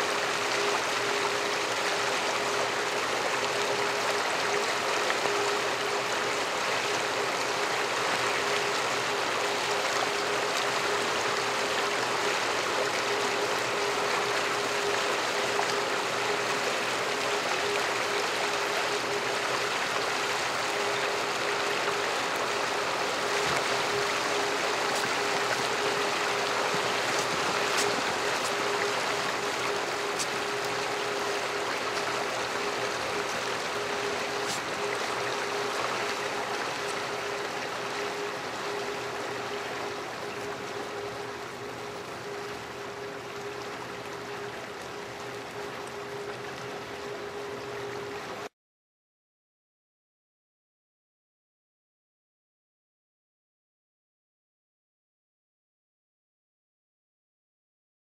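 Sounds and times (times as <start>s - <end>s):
faint steady hum: 0.0s - 48.5s
stream water rushing: 0.0s - 48.5s.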